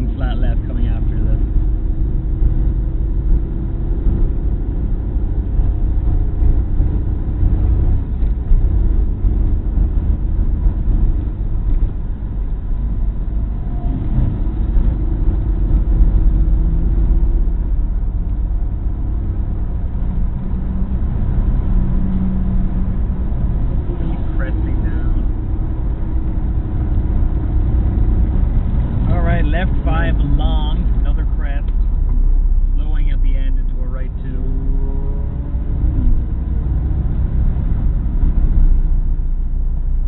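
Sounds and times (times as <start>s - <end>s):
car engine at high speed: 0.0s - 40.0s
tyre and road noise: 0.0s - 40.0s.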